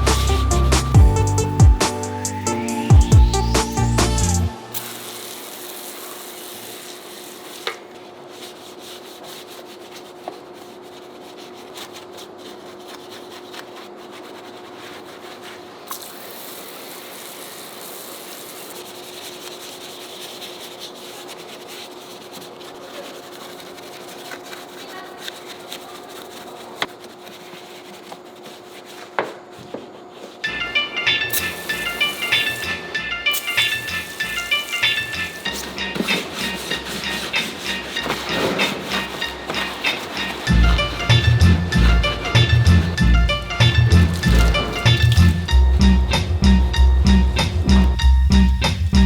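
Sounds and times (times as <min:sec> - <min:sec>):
scrubbing against a surface: 0:00.0 - 0:04.4, 0:05.5 - 0:30.4, 0:33.4 - 0:45.6.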